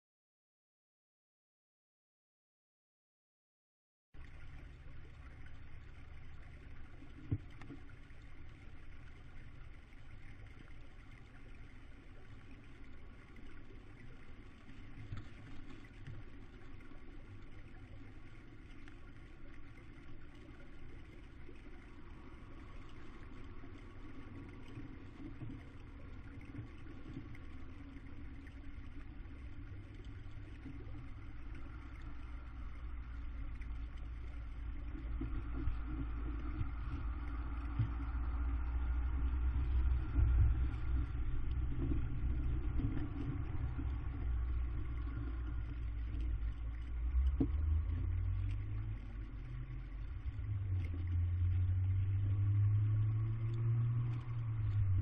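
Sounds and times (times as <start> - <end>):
low rumble and hum: 4.2 - 55.0.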